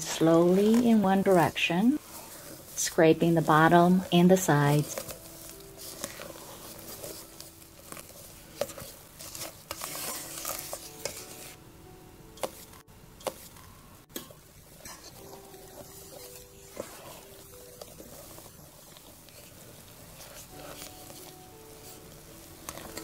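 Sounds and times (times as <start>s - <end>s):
spatula scraping metal pot: 0.0s - 11.6s, 14.7s - 23.0s.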